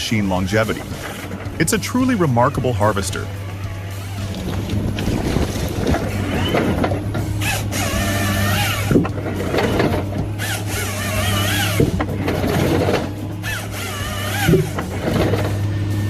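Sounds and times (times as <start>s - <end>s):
high-pitched squeals: 0.0s - 16.0s
low engine drone: 0.0s - 16.0s
mechanical knocking and clattering: 0.0s - 16.0s.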